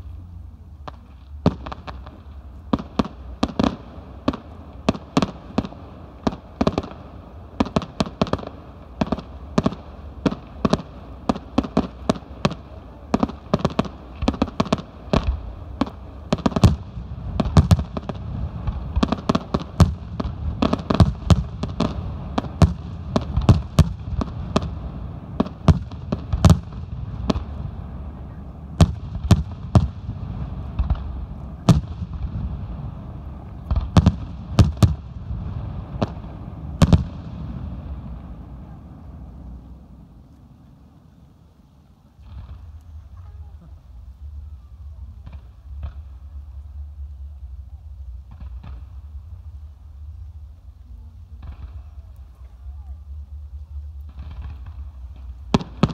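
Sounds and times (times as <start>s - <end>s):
continuous low rumble: 0.0s - 55.9s.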